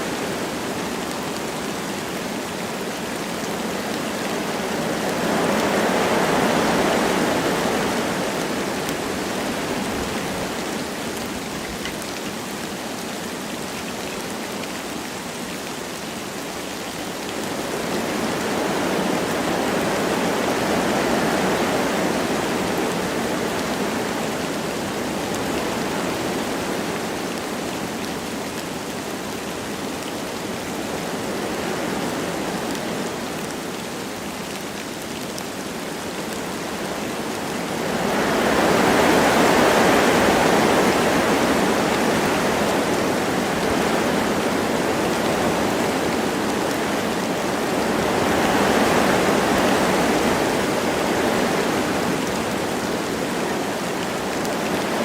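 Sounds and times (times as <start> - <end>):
light rain: 0.0 - 55.0
wind blowing through trees: 0.0 - 55.0.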